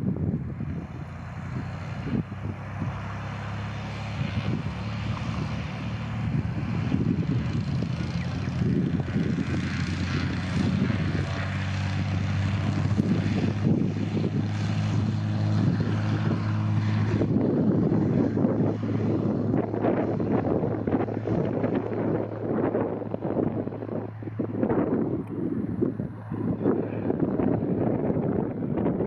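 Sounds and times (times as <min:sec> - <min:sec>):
propeller plane engine: 0:00.0 - 0:29.0
wind buffeting microphone: 0:00.0 - 0:29.0.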